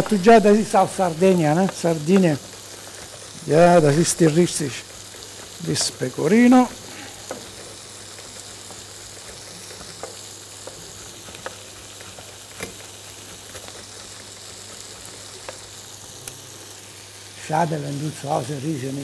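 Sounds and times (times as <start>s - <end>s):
sauce sizzling in a frying pan: 0.0s - 19.0s.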